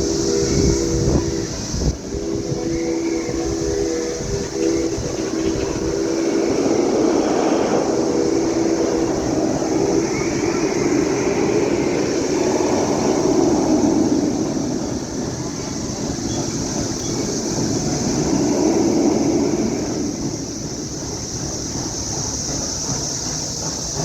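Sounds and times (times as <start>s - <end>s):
low hums: 0.0s - 23.8s
cicadas droning: 0.0s - 24.0s
low continuous rumble: 0.0s - 24.0s.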